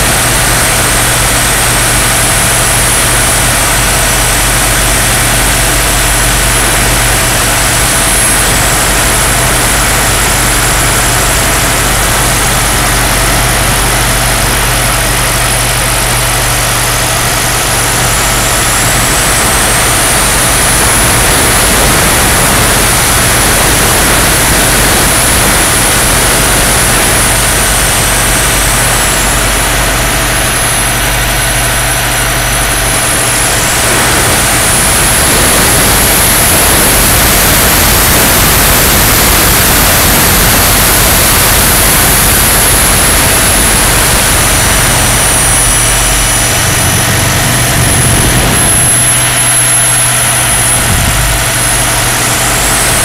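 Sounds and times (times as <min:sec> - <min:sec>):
model helicopter engine and rotor: 0:00.0 - 0:53.0
thin high whine: 0:00.0 - 0:53.0.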